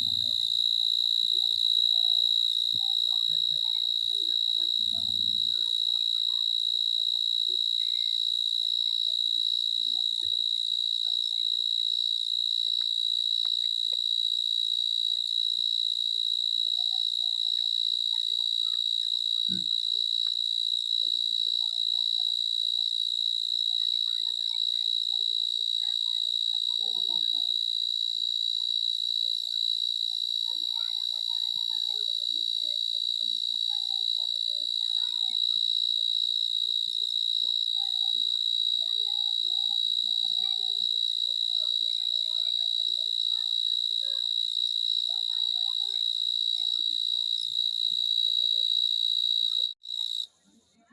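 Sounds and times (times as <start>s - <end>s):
high-pitched insect trill: 0.0s - 50.3s.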